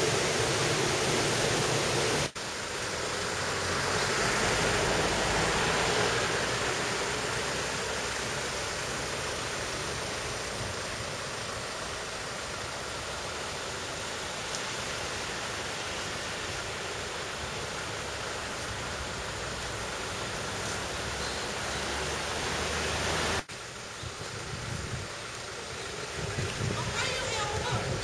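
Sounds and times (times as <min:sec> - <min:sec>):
water rushing in stream: 0:00.0 - 0:28.0.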